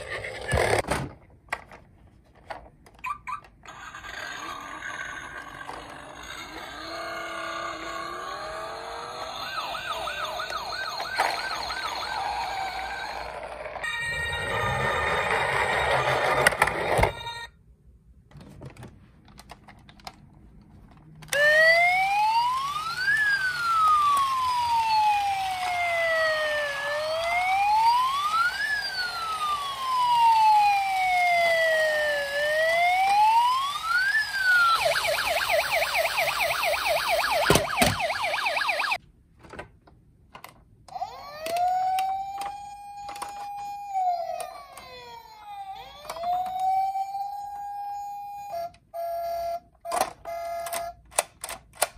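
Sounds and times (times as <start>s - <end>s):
toy electronic siren: 3.0s - 17.6s, 21.3s - 39.0s, 40.9s - 51.0s.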